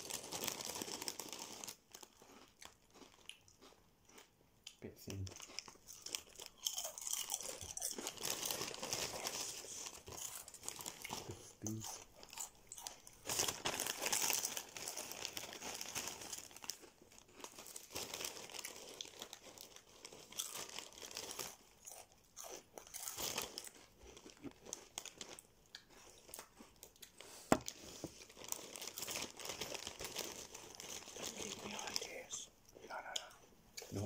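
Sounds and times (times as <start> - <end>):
crisp packet crinkling: 0.0 - 3.4, 5.2 - 22.0, 23.0 - 26.3, 27.5 - 33.2
crunching and chewing crisps: 0.0 - 34.0.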